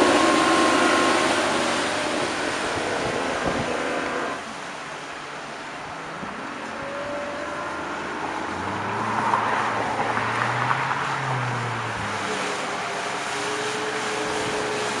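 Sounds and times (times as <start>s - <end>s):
boat wake hissing: 0.0s - 10.0s, 11.1s - 15.0s.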